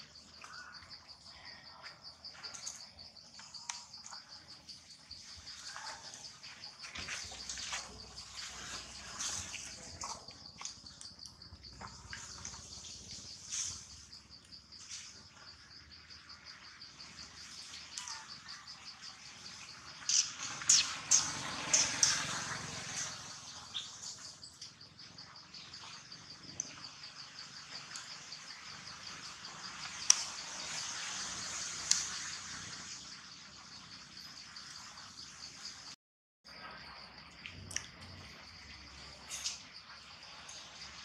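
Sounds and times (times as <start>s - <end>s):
insect trill: 0.0s - 41.0s.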